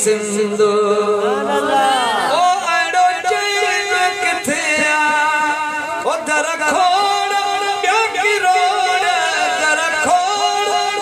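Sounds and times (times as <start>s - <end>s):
man chanting a cappella: 0.0s - 11.0s.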